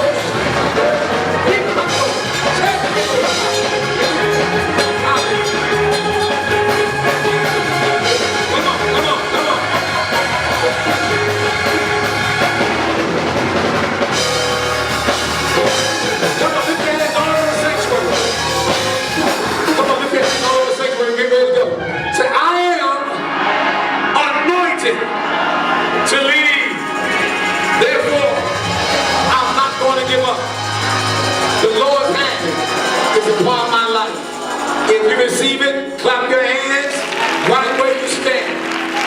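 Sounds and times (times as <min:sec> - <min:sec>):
live church band music: 0:00.0 - 0:39.0.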